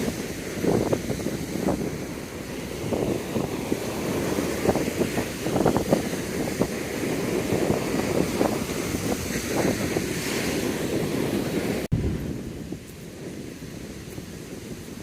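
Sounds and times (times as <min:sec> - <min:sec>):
sea surf on a beach: 0:00.0 - 0:15.0
wind buffeting microphone: 0:00.0 - 0:15.0.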